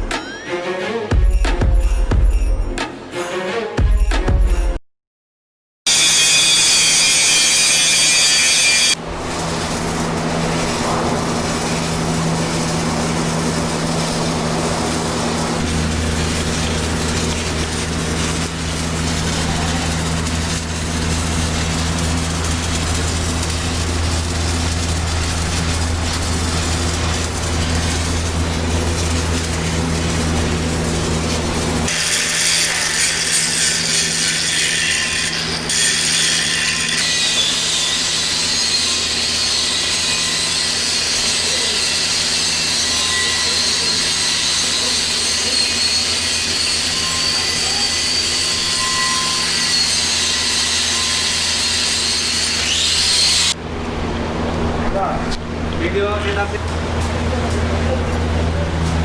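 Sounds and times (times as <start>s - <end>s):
welding arc crackling: 5.9s - 53.6s
welding machine hum: 5.9s - 59.0s.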